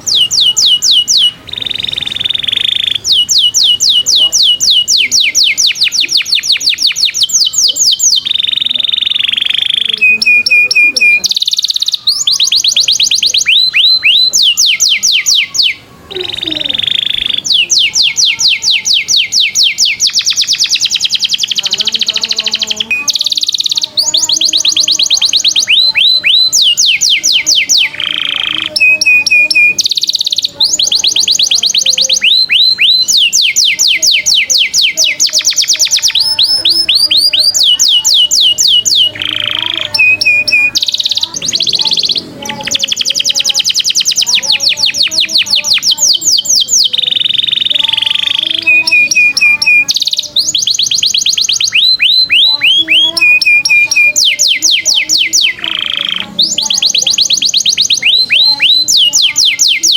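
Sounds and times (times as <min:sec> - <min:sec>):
bird whistles: 0:00.0 - 0:59.9
songbirds chirping rapidly: 0:00.0 - 0:59.9.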